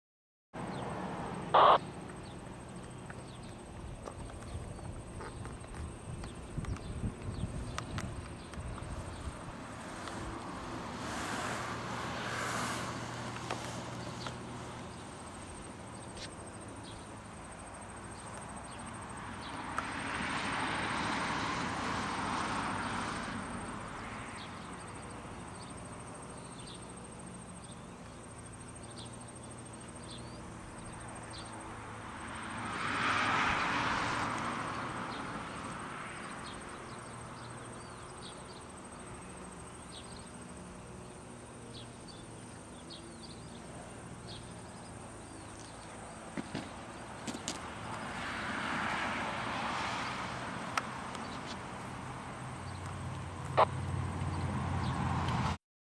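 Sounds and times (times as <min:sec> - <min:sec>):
insect chirping: 0:00.6 - 0:54.9
wheels rolling on asphalt: 0:00.6 - 0:55.6.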